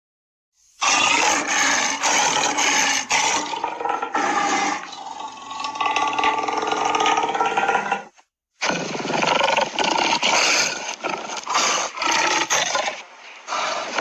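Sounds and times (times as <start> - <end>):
tiger growling and snarling: 0.8 - 14.0.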